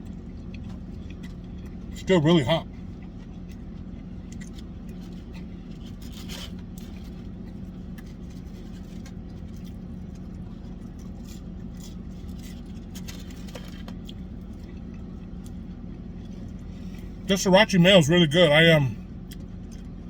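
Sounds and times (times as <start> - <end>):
faint clicks and rustles of eating: 0.0 - 17.3, 19.0 - 20.0
car engine idling hum: 0.0 - 20.0.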